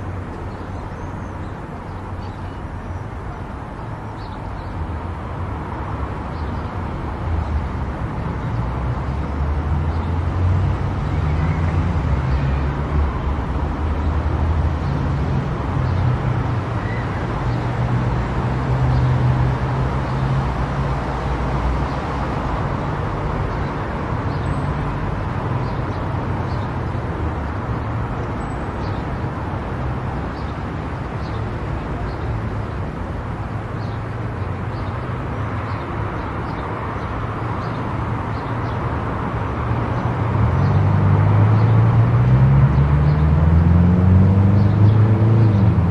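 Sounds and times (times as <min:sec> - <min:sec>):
tyre noise on highway: 0:00.0 - 0:45.9.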